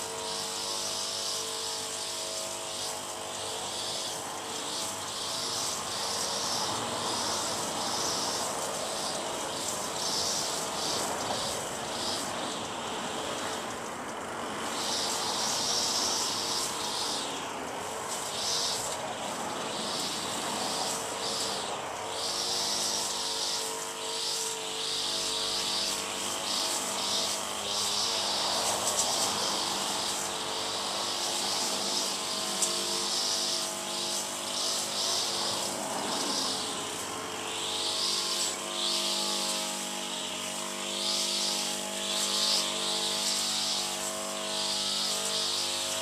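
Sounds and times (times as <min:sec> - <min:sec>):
high hissing chirr: 0:00.0 - 0:46.0.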